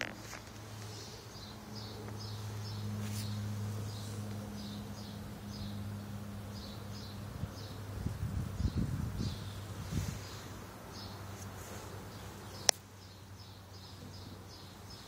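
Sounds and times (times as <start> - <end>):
steady low hum: 0.0 - 15.0
bird chirping: 0.4 - 15.0.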